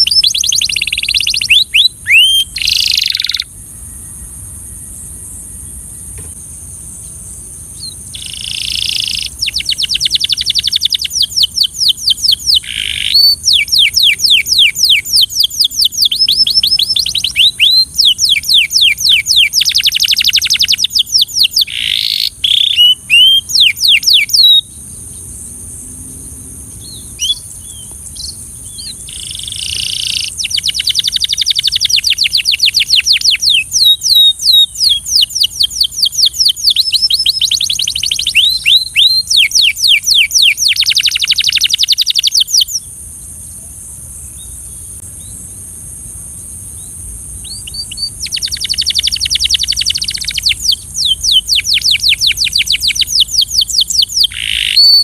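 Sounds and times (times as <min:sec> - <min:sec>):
canary singing trills: 0:00.0 - 0:06.4, 0:07.0 - 0:25.6, 0:26.7 - 0:42.9, 0:46.8 - 0:55.0
faint high hiss: 0:00.0 - 0:55.0.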